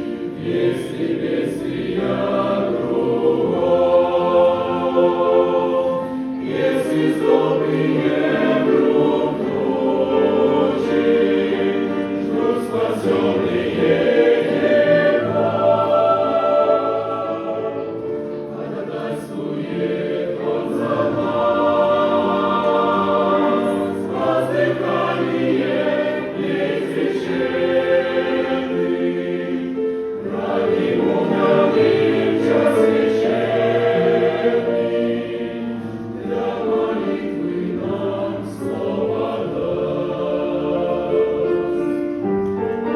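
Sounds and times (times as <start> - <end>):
church choir singing a hymn: 0.0 - 42.9.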